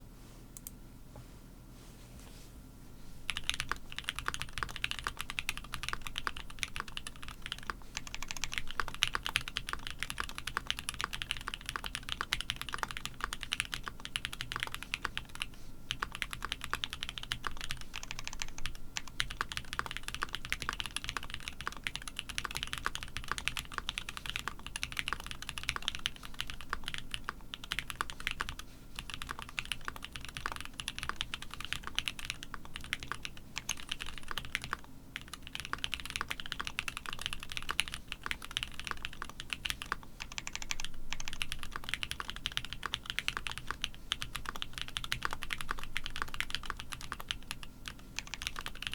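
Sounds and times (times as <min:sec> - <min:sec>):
fast mechanical keyboard typing: 0:03.3 - 0:48.9.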